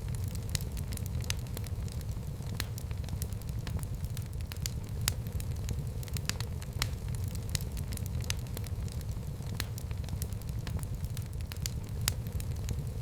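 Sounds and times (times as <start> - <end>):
fire crackling and popping: 0.0 - 13.0
fire flames rumbling: 0.0 - 13.0.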